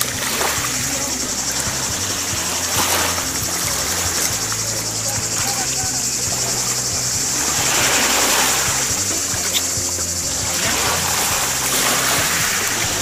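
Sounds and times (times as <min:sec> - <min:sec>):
background music: 0:00.0 - 0:13.0
person wading in water: 0:00.0 - 0:13.0
small waves washing: 0:00.0 - 0:13.0.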